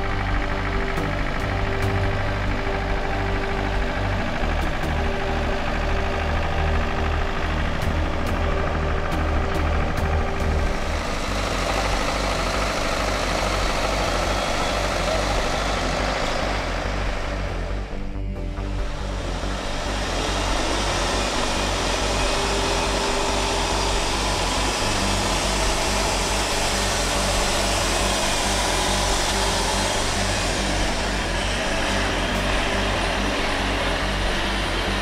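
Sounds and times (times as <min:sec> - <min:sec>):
diesel truck engine rumbling: 0:00.0 - 0:35.0.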